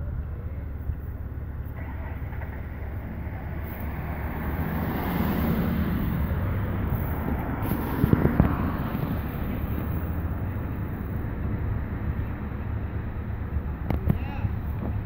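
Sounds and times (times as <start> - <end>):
pickup truck approaching: 0.0 - 15.0
vehicle engines rumbling: 0.0 - 15.0.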